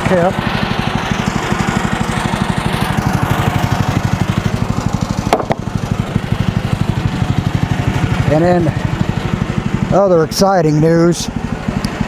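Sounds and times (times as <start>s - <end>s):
small gas engine idling: 0.0s - 12.0s.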